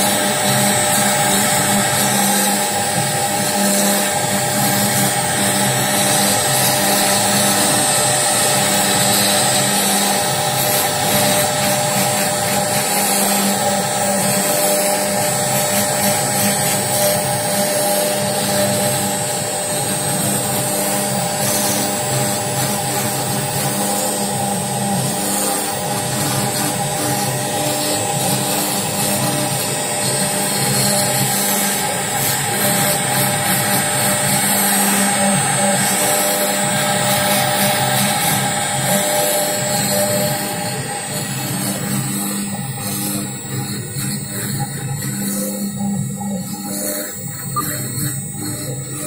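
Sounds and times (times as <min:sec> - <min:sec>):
bit cutting wood: 0:00.0 - 0:49.0
router spindle high whine: 0:00.0 - 0:49.0.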